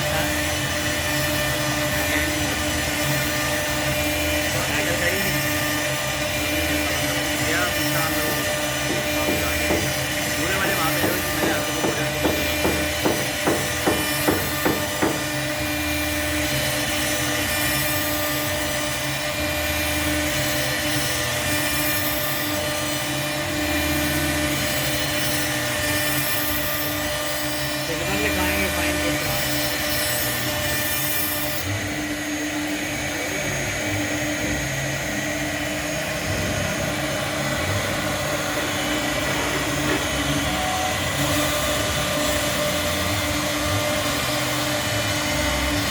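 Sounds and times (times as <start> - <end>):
router spindle whine: 0.0 - 45.9.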